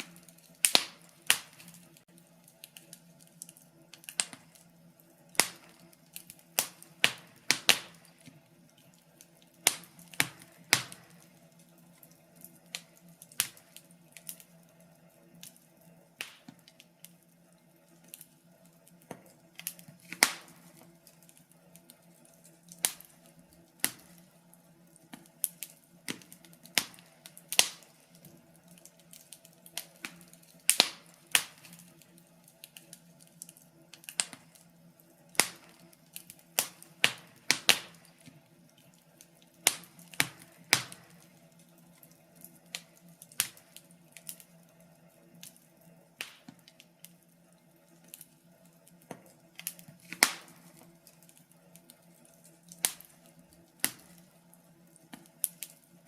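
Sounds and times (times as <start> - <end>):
faint steady hum: 0.0 - 56.0
fire crackling and popping: 0.0 - 56.0.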